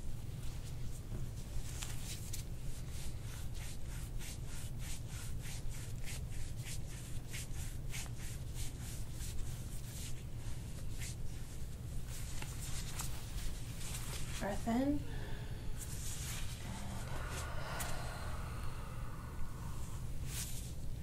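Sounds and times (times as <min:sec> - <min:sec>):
hands rubbing skin and fabric: 0:00.4 - 0:14.8, 0:15.7 - 0:21.0.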